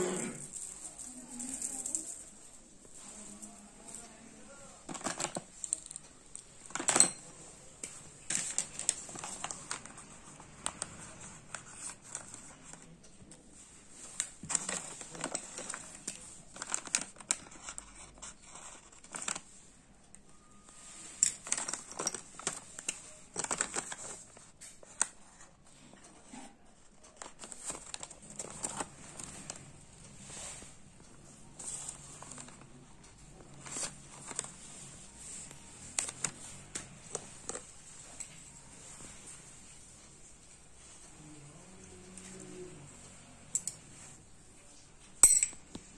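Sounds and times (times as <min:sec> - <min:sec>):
paper rustling and crinkling: 0:00.2 - 0:19.7, 0:20.6 - 0:41.4.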